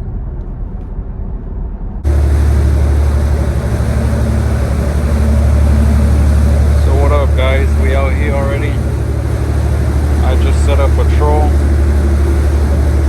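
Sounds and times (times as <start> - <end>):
low vehicle rumble: 1.9 - 13.0
boat engine droning: 2.0 - 13.0.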